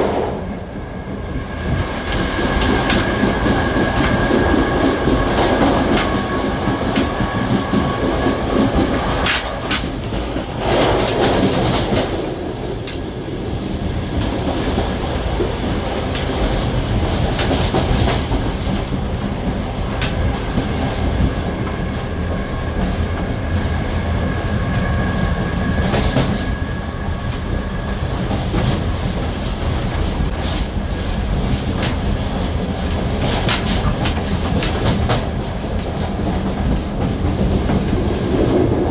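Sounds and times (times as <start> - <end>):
train rumble on board: 0.0 - 38.9.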